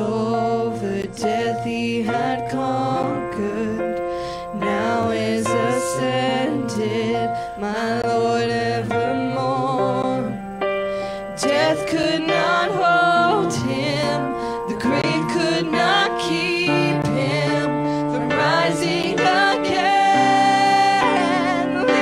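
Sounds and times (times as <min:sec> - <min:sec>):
choir singing a hymn: 0:00.0 - 0:03.9, 0:04.5 - 0:10.4, 0:11.3 - 0:22.0
woman singing: 0:00.0 - 0:03.9, 0:04.5 - 0:10.4, 0:11.4 - 0:22.0
electronic keyboard chords: 0:00.0 - 0:22.0.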